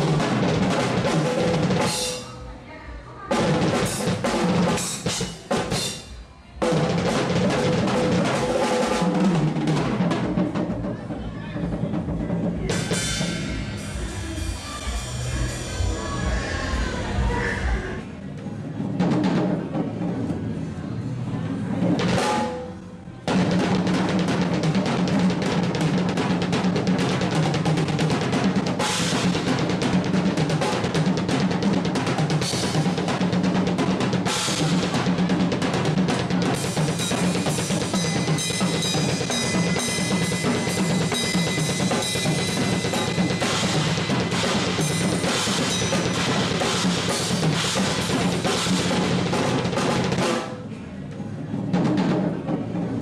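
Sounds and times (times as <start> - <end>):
fast drum kit playing: 0.0 - 2.4, 3.3 - 18.0, 23.3 - 50.6.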